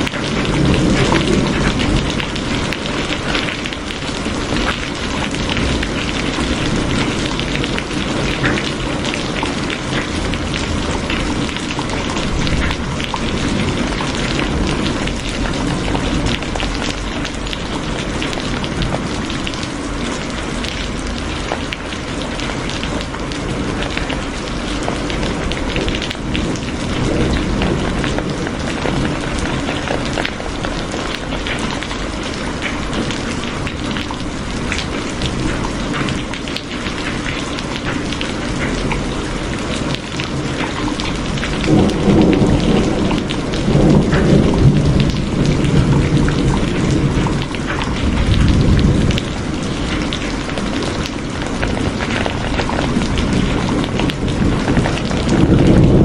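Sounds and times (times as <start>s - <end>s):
raindrops tapping on a surface: 0.0s - 56.0s.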